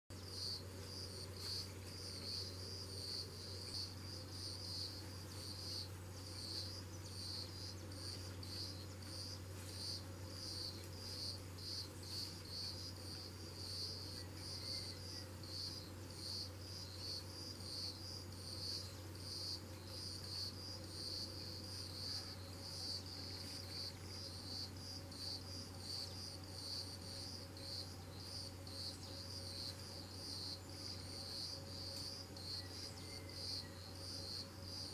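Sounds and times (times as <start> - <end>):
insects trilling: 0.2 - 34.9.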